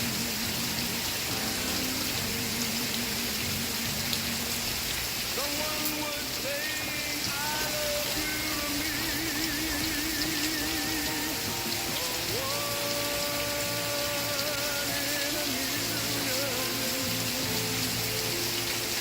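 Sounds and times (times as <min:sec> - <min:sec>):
person singing slow song: 0:00.0 - 0:19.0
steady rain falling: 0:00.0 - 0:19.0.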